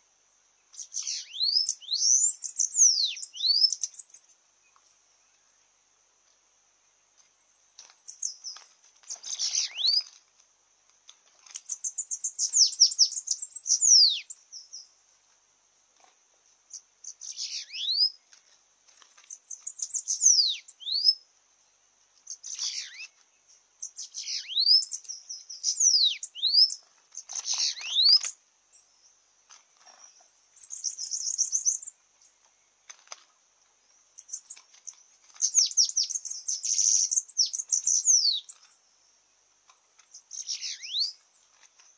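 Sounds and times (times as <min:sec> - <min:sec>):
birds singing buzzy songs: 0:00.0 - 0:41.9.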